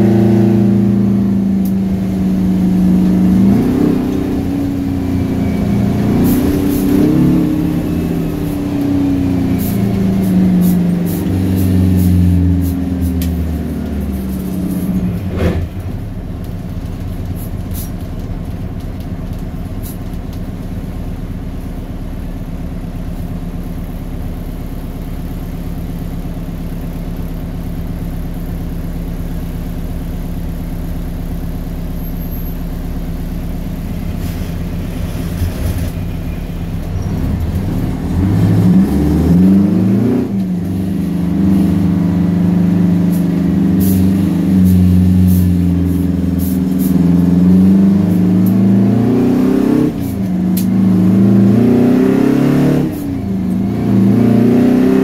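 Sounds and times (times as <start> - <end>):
diesel truck engine idling and revving: 0.0 - 55.0.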